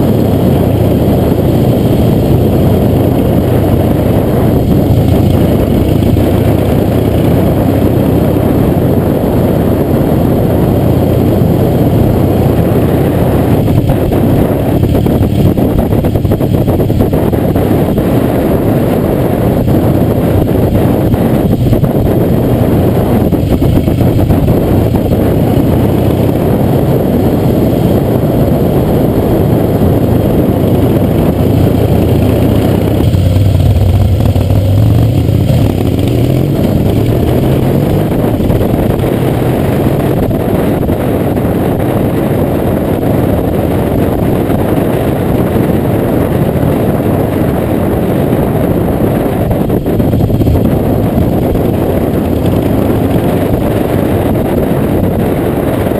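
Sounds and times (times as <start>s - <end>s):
motorcycle engine rumble: 0.0s - 55.9s.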